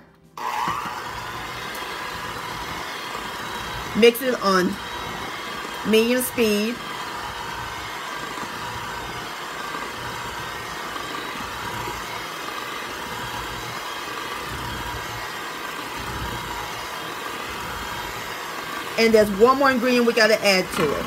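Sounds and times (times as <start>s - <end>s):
electric hand mixer whining: 0.0s - 21.0s.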